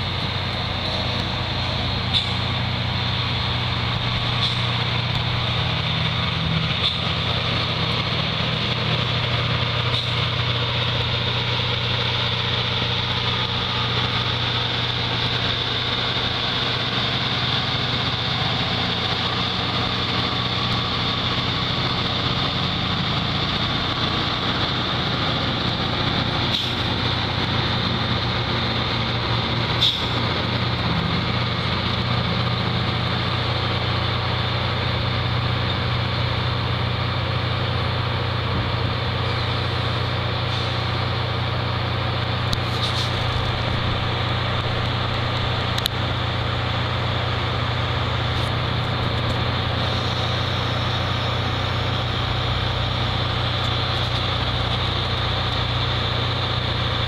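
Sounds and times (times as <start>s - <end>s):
idling machinery hum: 0.0s - 57.0s.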